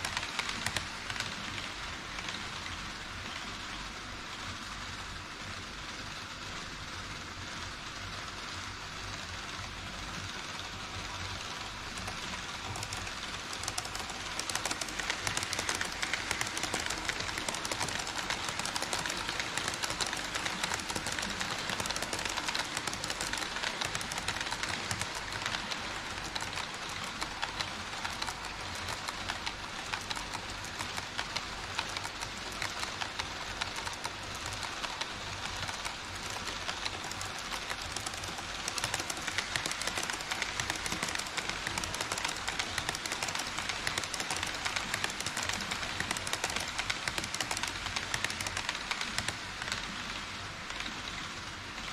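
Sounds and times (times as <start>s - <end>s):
model train wheels clicking on rails: 0.0s - 51.9s.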